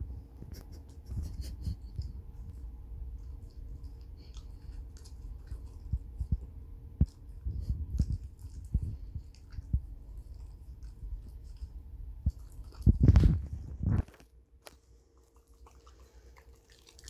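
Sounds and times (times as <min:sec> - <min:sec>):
dog chewing: 0:02.0 - 0:13.5, 0:14.7 - 0:17.0.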